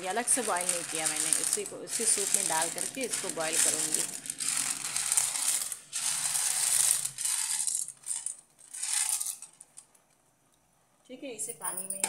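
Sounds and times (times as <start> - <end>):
dry macaroni rattling into pot: 0.0 - 9.9.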